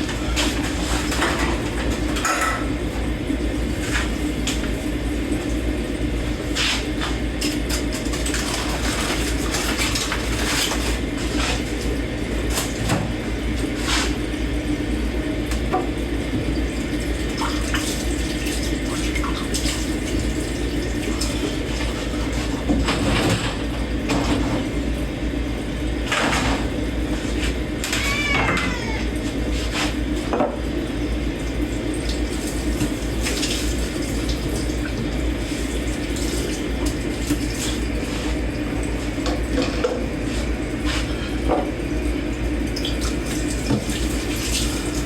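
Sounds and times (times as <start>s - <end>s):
tap water running: 0.0s - 45.0s.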